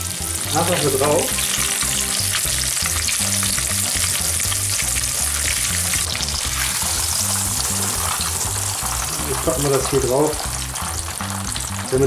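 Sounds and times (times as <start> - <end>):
background music with low notes: 0.0 - 12.0
schnitzel sizzling in hot oil: 0.0 - 12.0.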